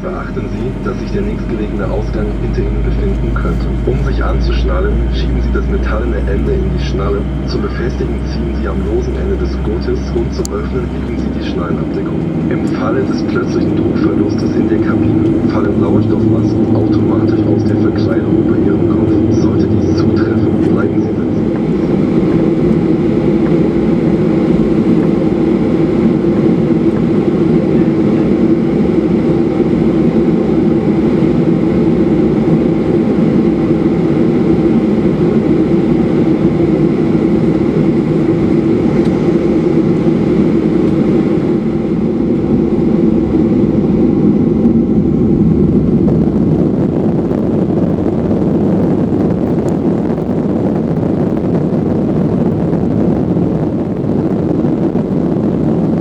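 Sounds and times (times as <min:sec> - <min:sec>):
airliner cabin engine drone: 0:00.0 - 0:56.0.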